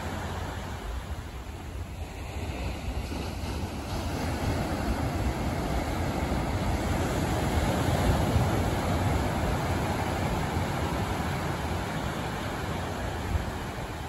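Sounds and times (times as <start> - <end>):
ocean surf breaking on shore: 0.0 - 14.0.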